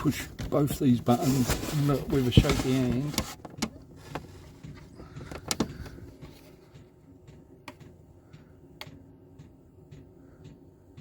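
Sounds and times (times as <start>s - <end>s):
air heater humming: 0.0s - 11.0s.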